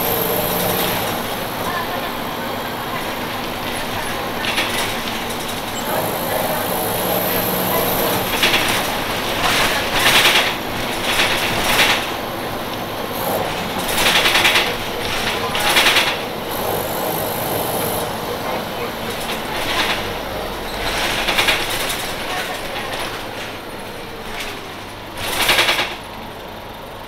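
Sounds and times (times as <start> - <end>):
diesel bus engine running: 0.0 - 27.0.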